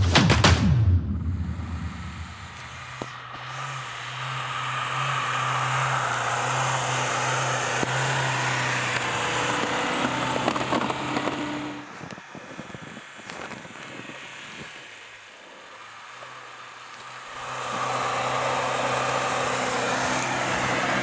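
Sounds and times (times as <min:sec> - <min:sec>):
diesel engine under load: 0:01.2 - 0:21.0
snow hissing under tyres: 0:02.5 - 0:21.0.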